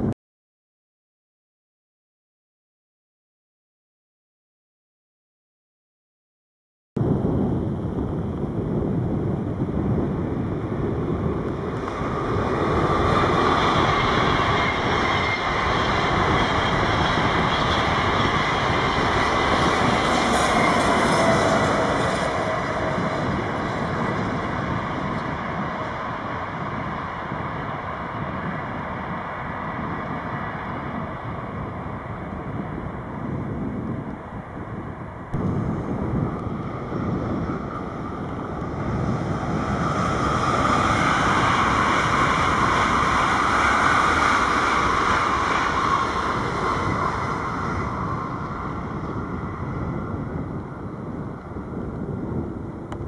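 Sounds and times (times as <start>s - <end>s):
train passing: 9.5s - 53.0s.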